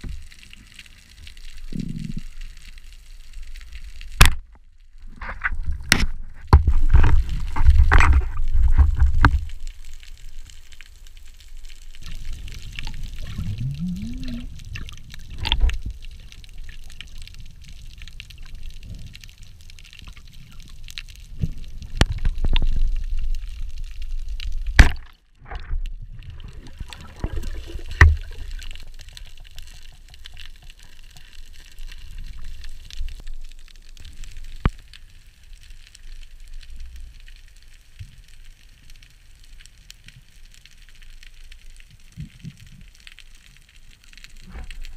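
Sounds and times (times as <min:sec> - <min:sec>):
water rushing and gurgling underwater: 0:00.0 - 0:44.9.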